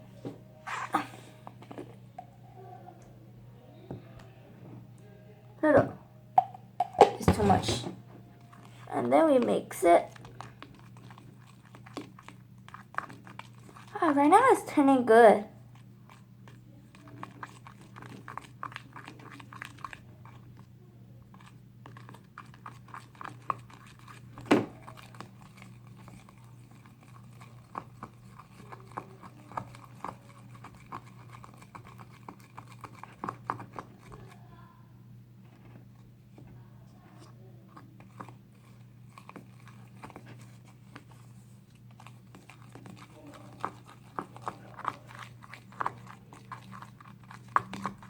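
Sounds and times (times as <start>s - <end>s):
wet slime squishing: 6.4s - 34.8s, 35.4s - 48.0s.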